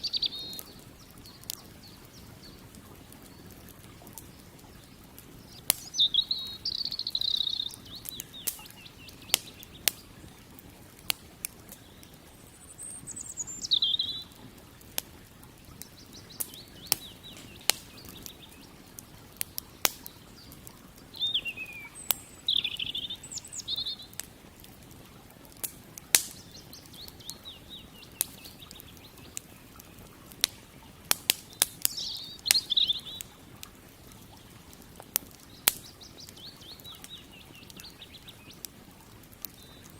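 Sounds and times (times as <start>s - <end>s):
songbird warbling: 0.0s - 10.5s, 11.6s - 14.6s, 15.6s - 24.2s, 26.1s - 33.6s, 35.4s - 38.7s
campfire crackling and popping: 0.0s - 39.9s.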